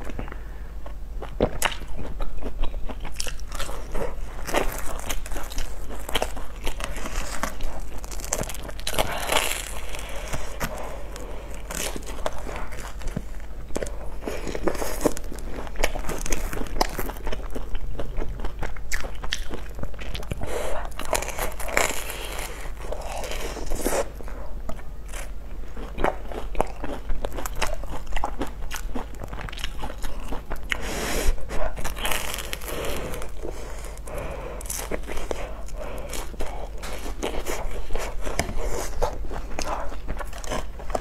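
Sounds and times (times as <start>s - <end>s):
crunchy chewing: 0.0s - 41.0s.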